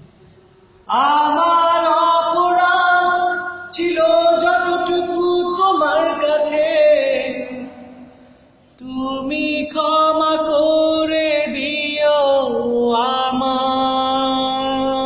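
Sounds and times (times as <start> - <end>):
man singing wordless notes: 0.9 - 8.2, 8.8 - 15.0.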